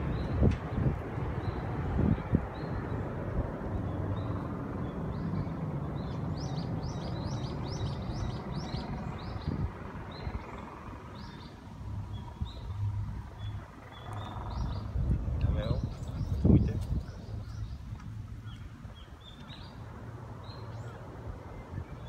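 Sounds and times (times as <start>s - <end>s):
low rumble: 0.0s - 18.5s
small birds chirping: 0.0s - 22.0s.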